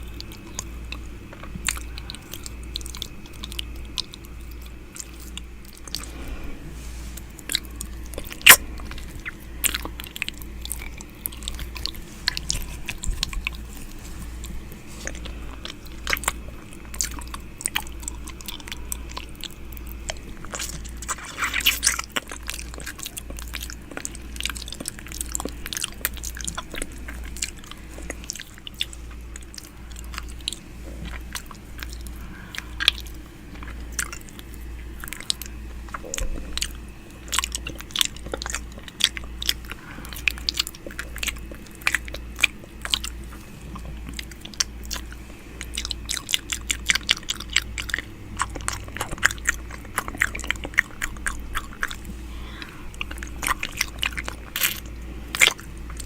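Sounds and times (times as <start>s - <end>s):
wet mouth clicks and licks: 7.3s - 56.0s.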